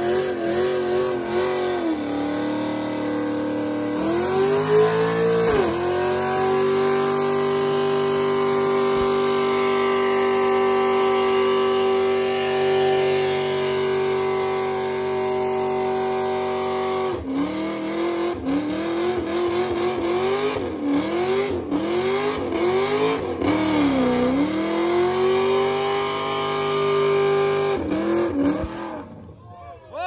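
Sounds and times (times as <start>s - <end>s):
car engine revving: 0.0s - 29.3s
tires spinning: 0.0s - 29.4s.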